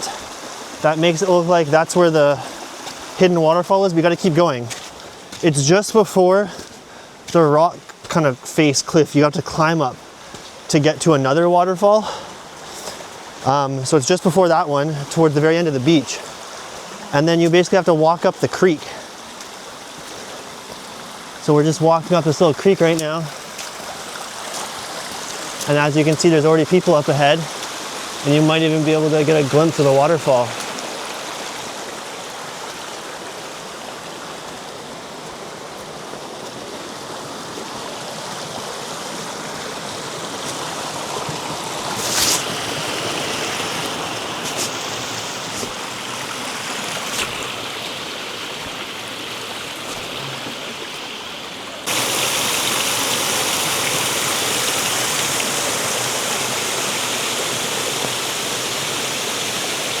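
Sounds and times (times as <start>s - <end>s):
water rushing over rocks: 0.0s - 60.0s
waterfall rushing: 0.0s - 60.0s.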